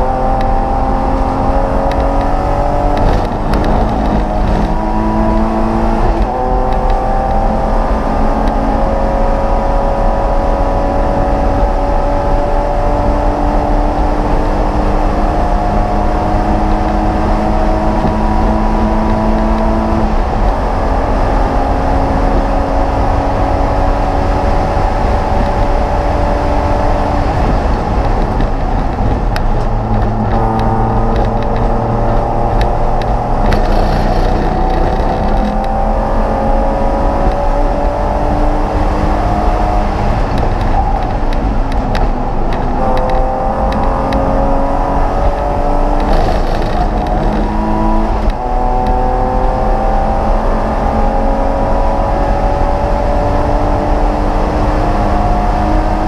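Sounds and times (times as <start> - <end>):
race car engine at speed: 0.0 - 56.0
wind and road noise: 0.0 - 56.0.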